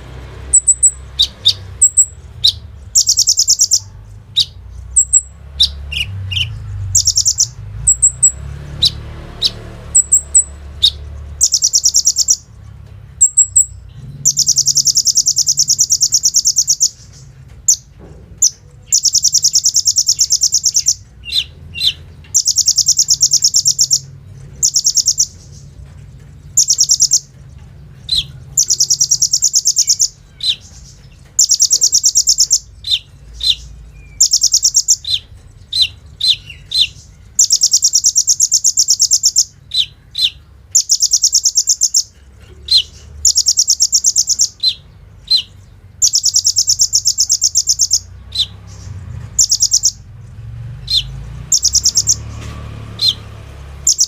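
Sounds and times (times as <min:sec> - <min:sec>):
bird sharp chips: 0:00.0 - 0:50.2, 0:50.8 - 0:54.0
bird singing high rattling trills: 0:00.0 - 0:54.0.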